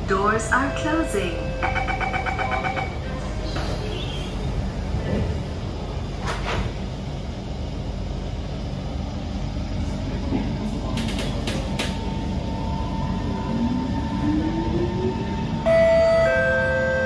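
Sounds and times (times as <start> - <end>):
train running gear rumble: 0.0 - 17.0.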